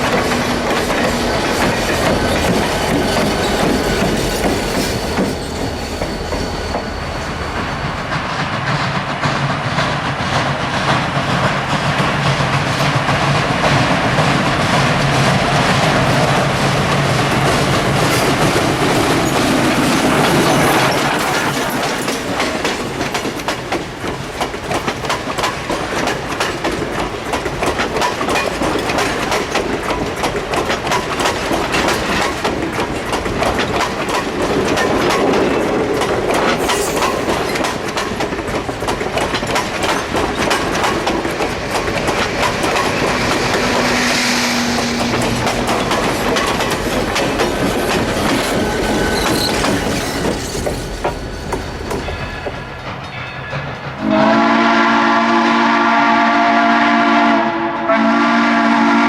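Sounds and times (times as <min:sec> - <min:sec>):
train wheels clicking over rails: 0:00.0 - 0:54.3.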